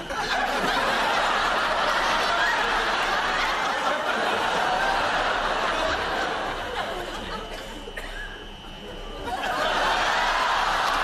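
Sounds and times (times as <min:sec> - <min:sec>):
audience laughing: 0:00.0 - 0:08.0, 0:08.6 - 0:11.0.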